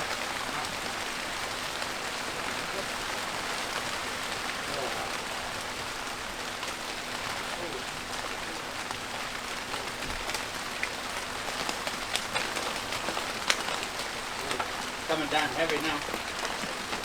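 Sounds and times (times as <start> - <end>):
heavy rain falling: 0.0 - 17.0
sharp water drips: 0.0 - 17.0.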